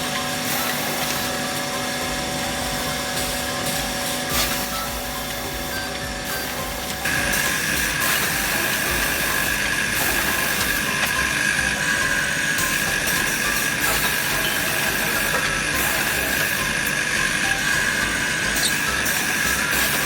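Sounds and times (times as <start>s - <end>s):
wood drilling machine whining: 0.0s - 20.0s.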